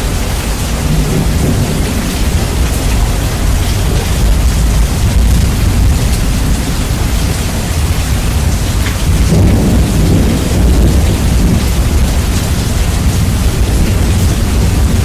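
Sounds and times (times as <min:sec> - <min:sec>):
heavy rain: 0:00.0 - 0:15.0
thunder rumble: 0:00.0 - 0:15.0.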